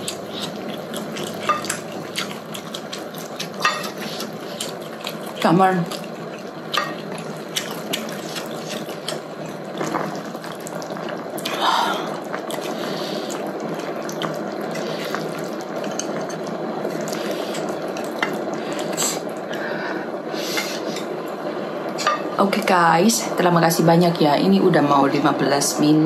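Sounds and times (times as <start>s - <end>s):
broth simmering: 0.0s - 26.0s.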